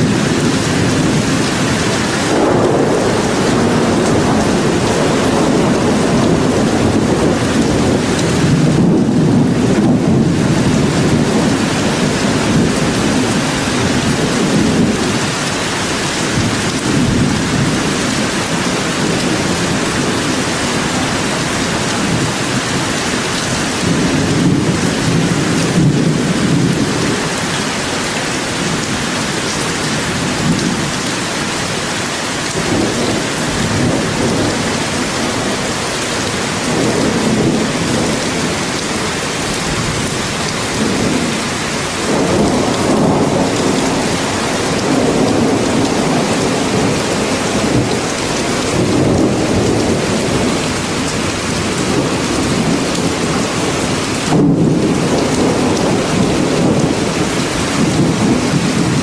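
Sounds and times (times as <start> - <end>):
rain falling in a forest: 0.0 - 59.0.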